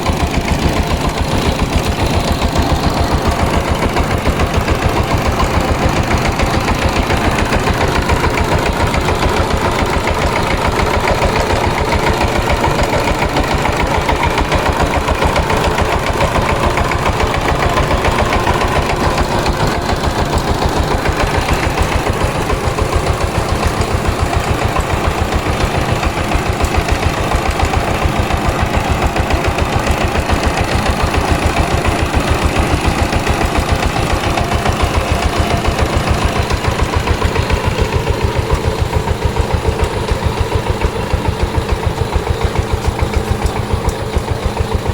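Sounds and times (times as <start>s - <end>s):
diesel tiller engine running: 0.0s - 44.9s.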